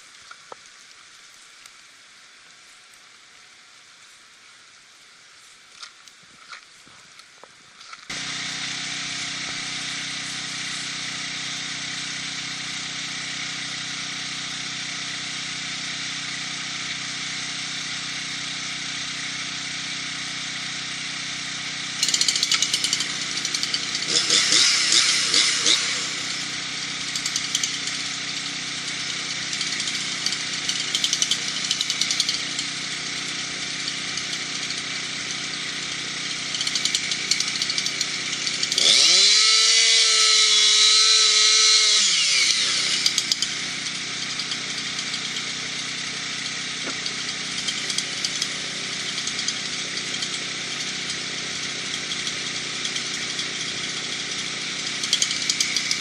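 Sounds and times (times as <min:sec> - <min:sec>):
chainsaw idling and revving: 0:08.1 - 0:56.0.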